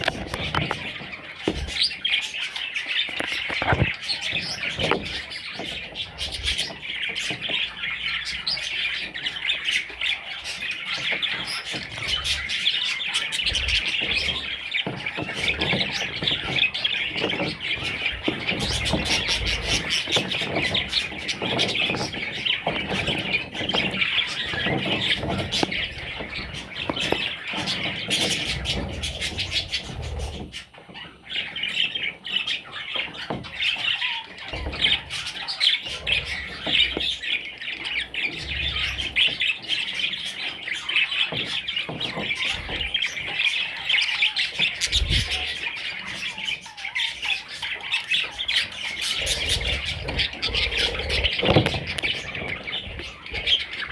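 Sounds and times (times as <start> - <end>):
budgerigars chirping and squawking: 0.0 - 53.9.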